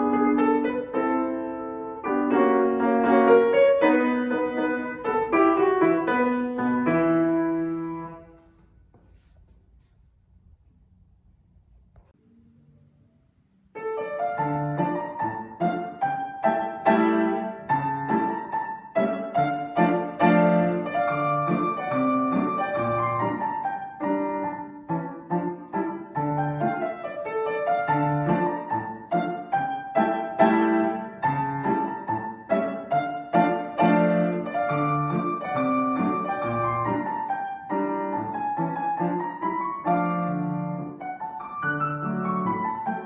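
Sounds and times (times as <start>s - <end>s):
piano playing classical piece: 0.0s - 8.9s, 13.7s - 43.0s.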